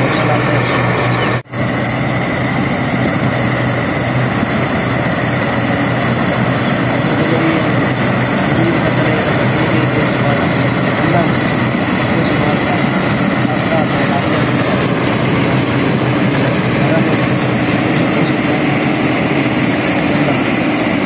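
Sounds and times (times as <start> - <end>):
combine harvester droning: 0.0 - 21.0
high machinery whine: 0.0 - 21.0.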